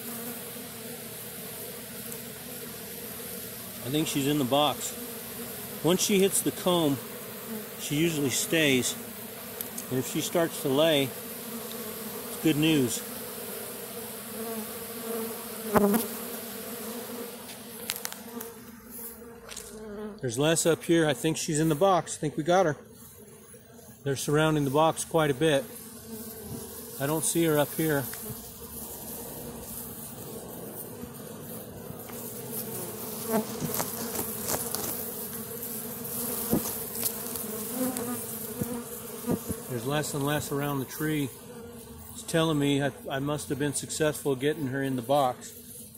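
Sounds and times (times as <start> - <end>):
bee swarm buzzing: 0.0 - 45.9.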